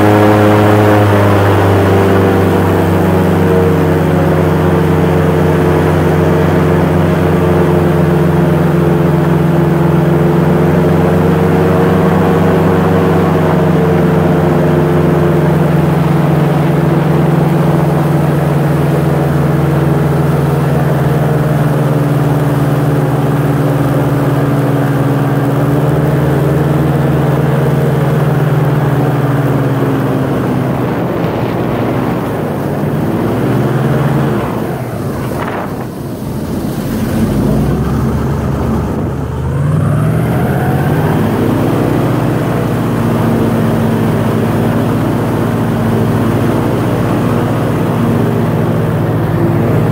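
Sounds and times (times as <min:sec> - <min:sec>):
airboat engine and propeller drone: 0:00.0 - 0:49.9.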